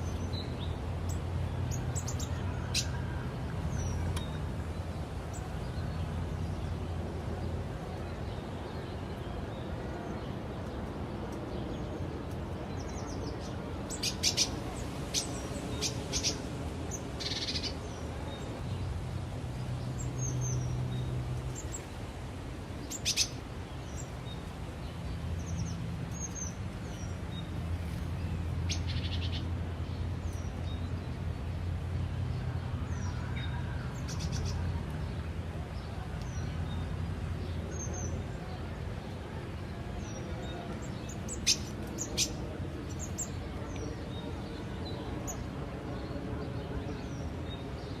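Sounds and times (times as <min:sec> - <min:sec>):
songbirds chirping and trilling: 0:00.0 - 0:48.0.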